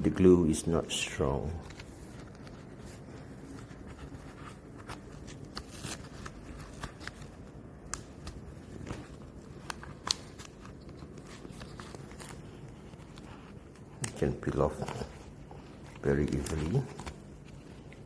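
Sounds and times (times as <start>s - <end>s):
low steady hum: 0.0s - 18.0s
small clicks and crinkles: 1.4s - 18.0s.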